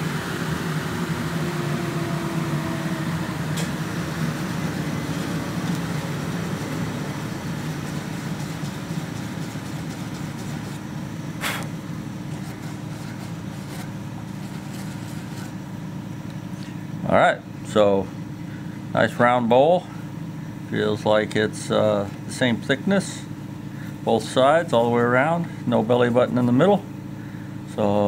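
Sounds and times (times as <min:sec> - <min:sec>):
dust extractor humming: 0:00.0 - 0:28.0.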